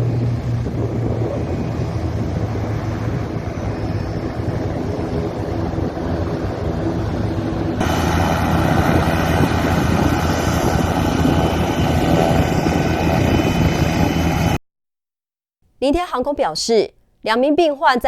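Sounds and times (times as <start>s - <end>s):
helicopter rotor and engine hum: 0.0s - 14.6s
high turbine whine: 0.0s - 14.6s.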